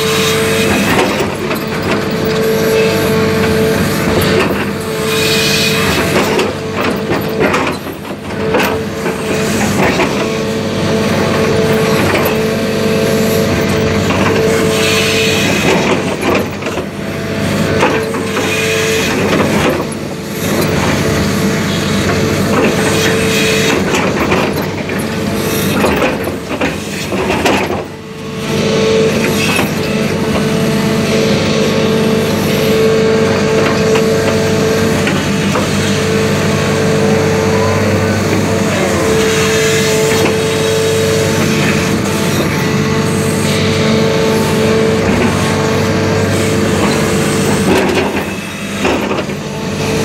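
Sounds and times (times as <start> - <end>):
diesel engine under load: 0.0 - 50.0.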